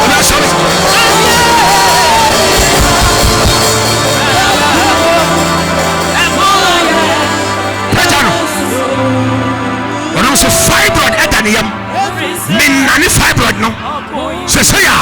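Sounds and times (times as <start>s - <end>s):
church music: 0.0s - 15.0s.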